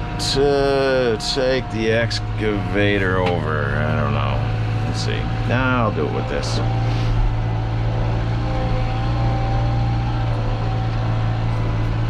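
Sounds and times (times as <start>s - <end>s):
diesel engine droning with whine: 0.0s - 12.0s.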